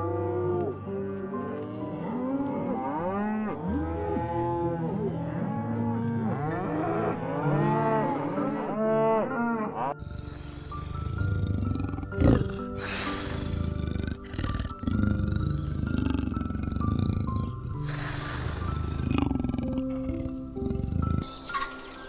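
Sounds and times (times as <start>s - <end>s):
cattle mooing: 1.8s - 21.3s.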